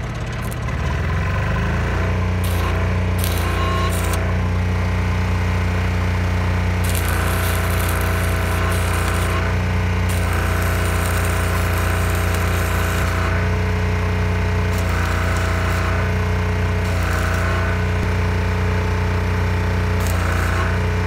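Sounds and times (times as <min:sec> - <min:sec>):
arc welding crackling: 0:01.9 - 0:04.7, 0:05.8 - 0:18.2, 0:19.2 - 0:21.0
steady low hum: 0:02.2 - 0:21.0.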